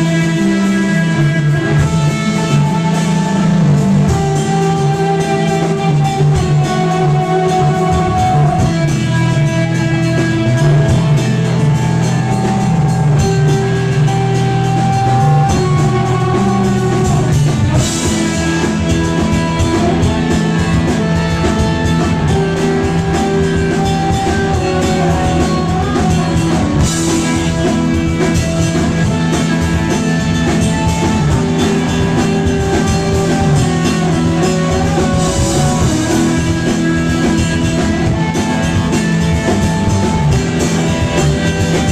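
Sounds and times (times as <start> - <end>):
drum kit: 0.0 - 41.9
live rock band playing: 0.0 - 41.9.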